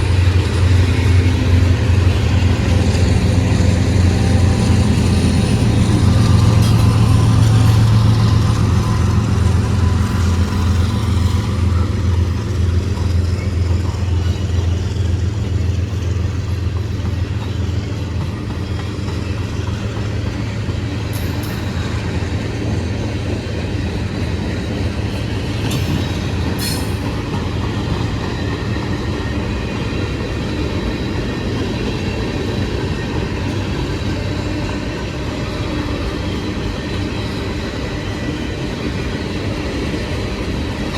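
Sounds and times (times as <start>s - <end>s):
locomotive engine drone: 0.0s - 40.9s
train cars rumbling on rails: 0.0s - 40.9s.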